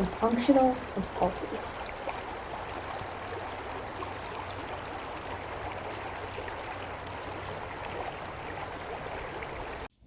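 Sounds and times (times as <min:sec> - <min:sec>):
mountain stream rushing: 0:00.0 - 0:09.9.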